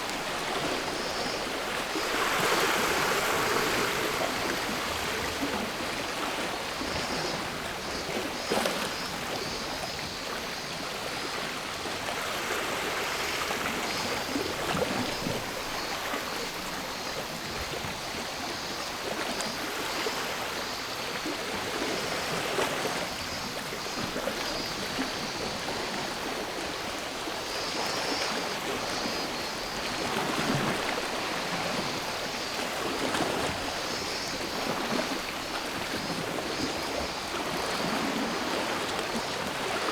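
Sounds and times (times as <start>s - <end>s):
cicadas buzzing: 0.1s - 11.5s, 12.1s - 39.8s.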